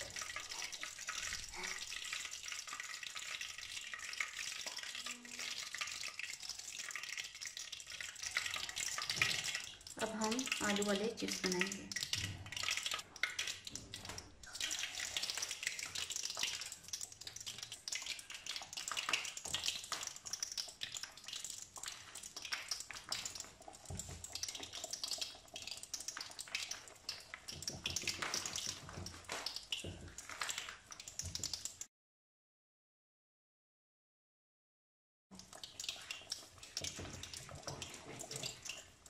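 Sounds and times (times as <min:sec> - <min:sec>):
deep-frying oil sizzling and popping: 0:00.0 - 0:31.9, 0:35.3 - 0:39.0.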